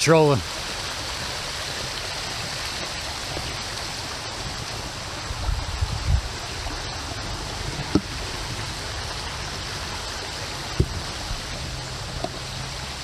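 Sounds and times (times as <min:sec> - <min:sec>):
creek water over rocks: 0:00.0 - 0:13.0.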